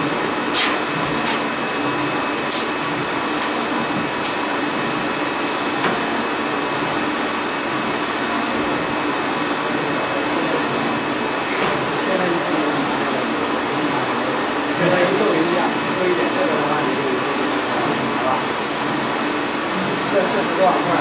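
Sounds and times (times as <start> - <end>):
printer whirring and hissing: 0.0 - 21.0.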